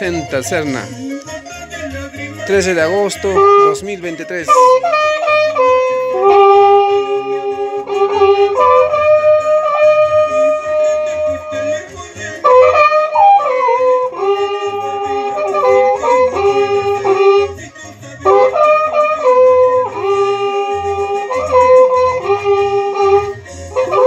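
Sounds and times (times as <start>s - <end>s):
horns playing held notes: 2.5s - 24.0s.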